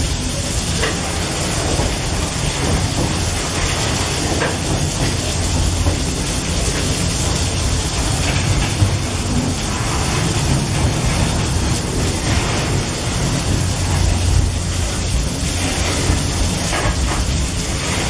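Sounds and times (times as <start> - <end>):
heavy rain hissing: 0.0 - 18.0
train wheels rumbling on rails: 0.0 - 18.0.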